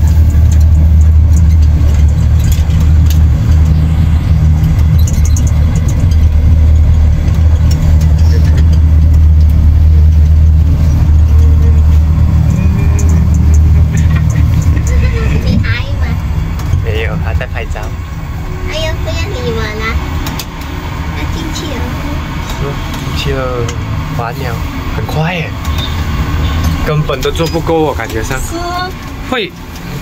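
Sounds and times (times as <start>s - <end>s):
rail car rumbling on track: 0.0s - 30.0s.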